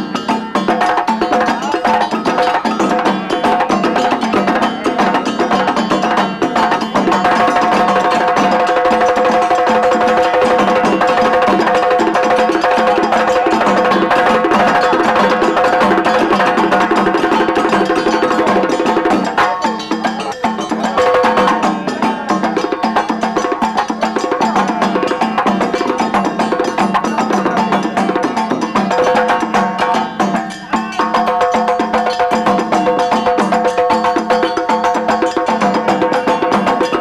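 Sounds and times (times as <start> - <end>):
hand drums playing fast rhythm: 0.0 - 37.0.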